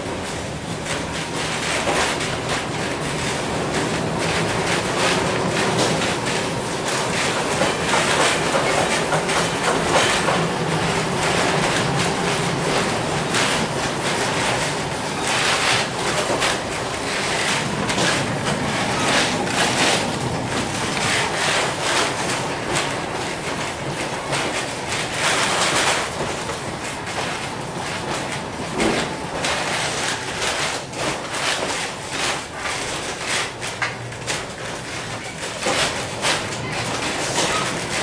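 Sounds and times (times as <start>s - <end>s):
streetcar wheels on rails: 0.0s - 38.0s.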